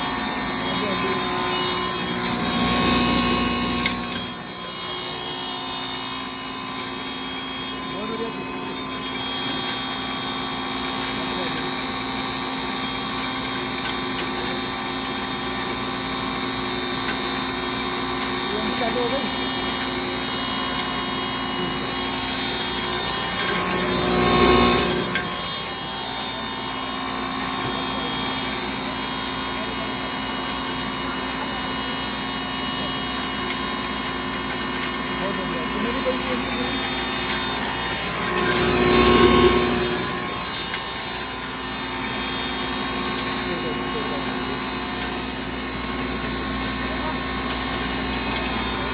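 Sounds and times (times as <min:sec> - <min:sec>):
flour grinder machine whine: 0:00.0 - 0:48.9.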